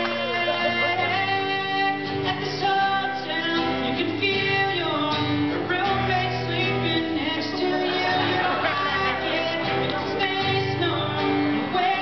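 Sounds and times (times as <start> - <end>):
acoustic guitar strumming: 0.0 - 12.0
man singing into a microphone: 0.0 - 12.0.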